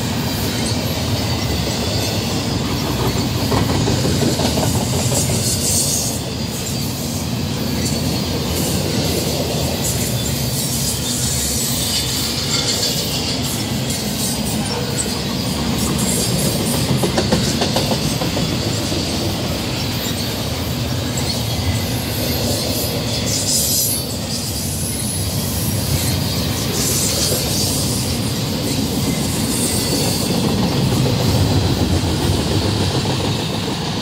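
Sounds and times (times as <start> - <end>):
clickety-clack over rail joints: 0.0 - 34.0
train wheels rumbling on rail: 0.0 - 34.0.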